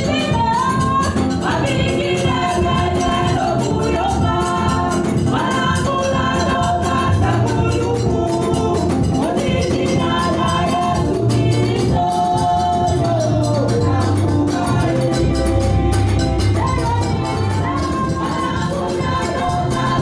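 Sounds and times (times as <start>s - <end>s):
drums and bass beat: 0.0s - 20.0s
women singing gospel song: 0.0s - 20.0s.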